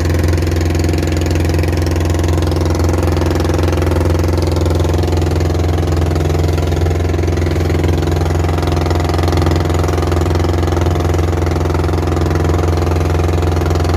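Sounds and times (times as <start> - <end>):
boat engine running: 0.0 - 13.9.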